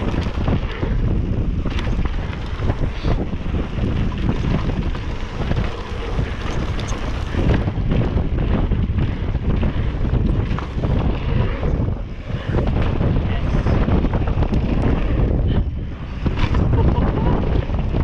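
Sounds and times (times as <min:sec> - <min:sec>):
tyres rolling over gravel: 0:00.0 - 0:15.2
bike knocking and rattling: 0:00.0 - 0:18.0
wind noise on microphone: 0:00.0 - 0:18.0.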